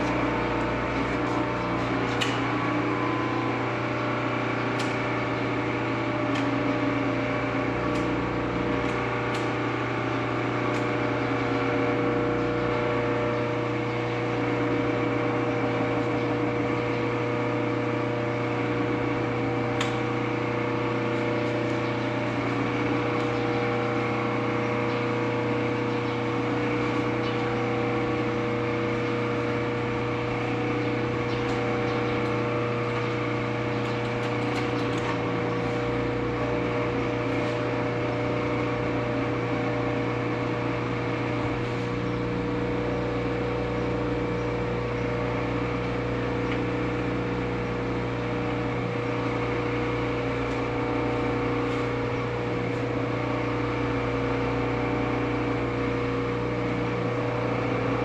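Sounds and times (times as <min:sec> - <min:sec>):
lathe motor humming: 0:00.0 - 0:58.0.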